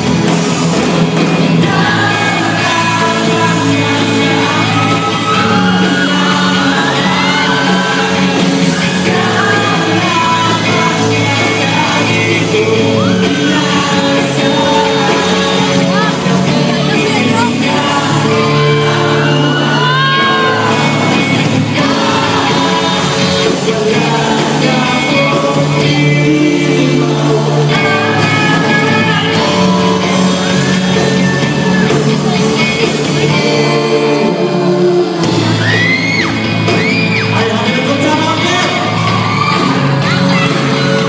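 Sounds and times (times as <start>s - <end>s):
drum kit: 0.0s - 41.0s
electric guitar: 0.0s - 41.0s
man singing into a microphone: 1.6s - 29.7s, 31.1s - 36.0s, 37.2s - 39.1s.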